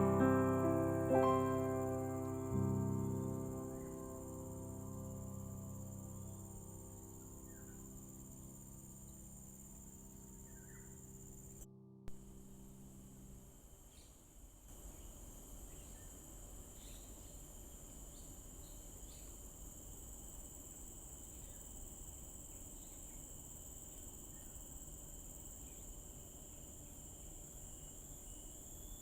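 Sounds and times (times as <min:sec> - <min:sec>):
insects trilling: 0:00.0 - 0:11.7, 0:14.8 - 0:29.0.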